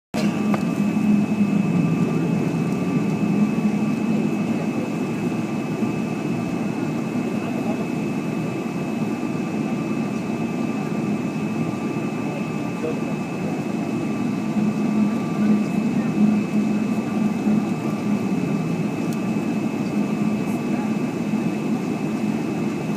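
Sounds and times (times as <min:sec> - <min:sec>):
jet engines humming and whining: 0:00.1 - 0:22.9.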